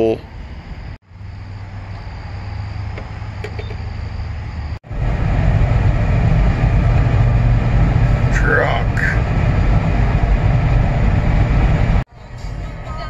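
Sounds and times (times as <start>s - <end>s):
car engine and tyres rumbling: 0.0s - 13.0s
low hum with hiss: 0.0s - 13.0s.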